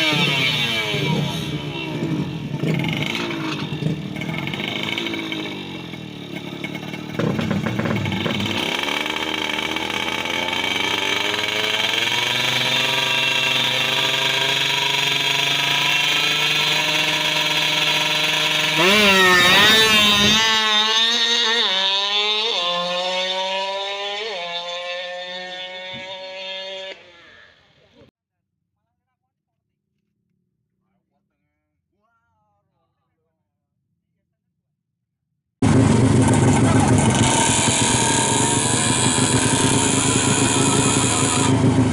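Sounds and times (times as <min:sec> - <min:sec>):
two-stroke engine revving: 0:00.0 - 0:27.6, 0:35.6 - 0:41.9.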